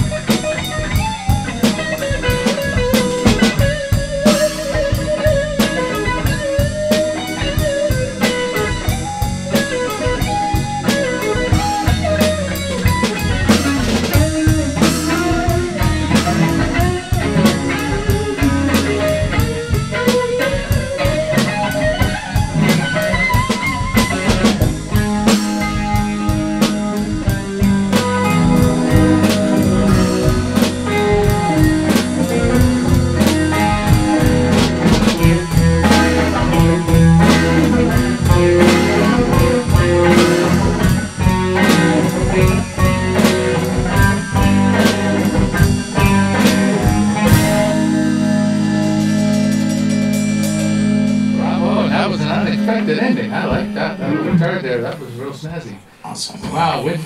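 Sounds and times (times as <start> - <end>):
drum kit beat: 0.0 - 55.2
electric guitar lead: 0.0 - 56.0.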